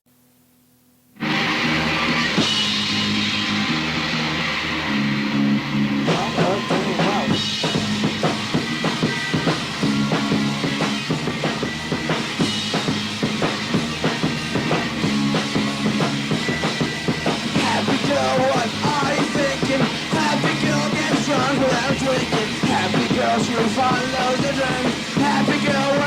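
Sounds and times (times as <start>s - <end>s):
guitar: 1.1s - 26.0s
bass guitar: 1.2s - 26.0s
drum kit fast beat: 1.2s - 26.0s.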